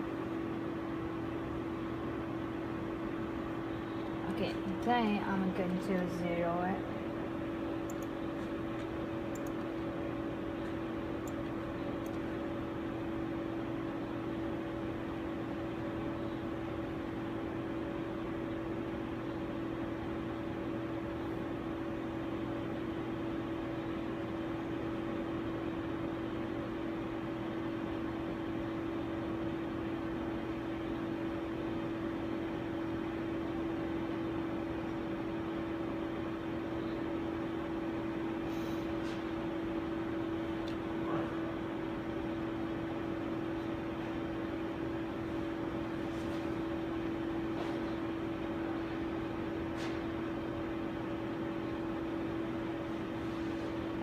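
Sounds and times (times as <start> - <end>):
machine hum and whir: 0.0 - 54.0.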